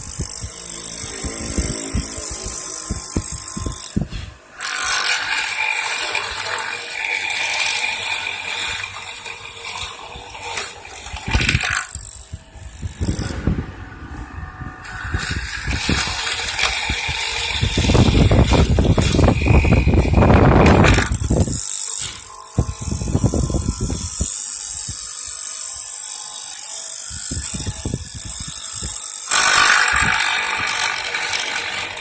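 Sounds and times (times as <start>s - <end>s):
mortising machine cutting wood: 0.0s - 32.0s.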